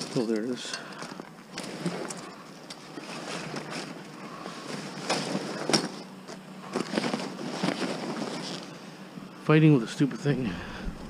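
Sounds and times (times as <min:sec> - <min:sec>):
vehicle idling hum: 0:00.0 - 0:11.0.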